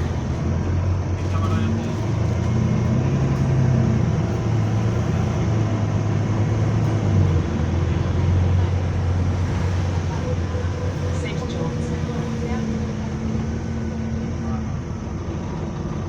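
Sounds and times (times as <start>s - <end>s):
bus engine droning hum: 0.0s - 16.0s.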